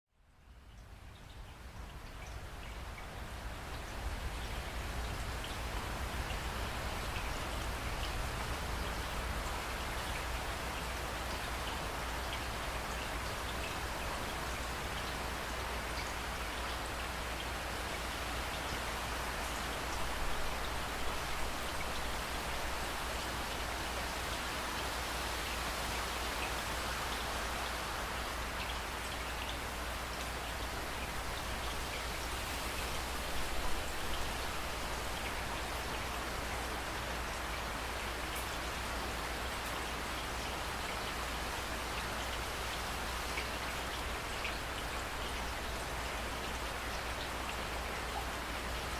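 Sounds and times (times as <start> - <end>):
steady rain falling: 0.1 - 48.9.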